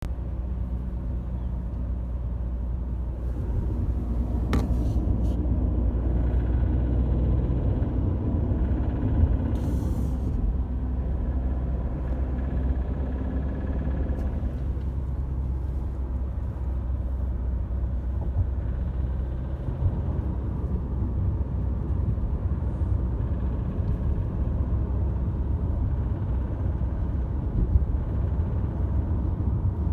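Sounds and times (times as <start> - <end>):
diesel engine drone: 0.0 - 29.9.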